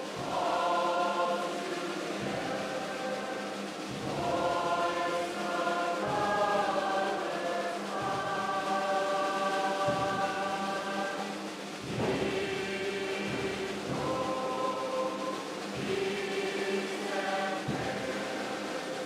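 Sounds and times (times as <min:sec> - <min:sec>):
orchestra playing slow sustained chords: 0:00.0 - 0:19.0.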